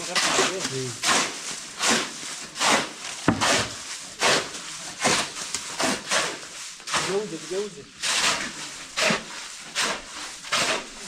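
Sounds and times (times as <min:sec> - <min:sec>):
hand tool scraping hard surface: 0:00.0 - 0:11.0.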